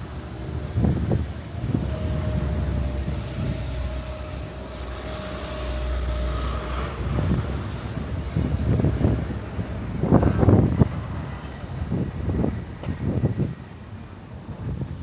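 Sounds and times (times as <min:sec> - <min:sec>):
street rumble: 0:00.0 - 0:15.0
wind buffeting microphone: 0:00.0 - 0:15.0.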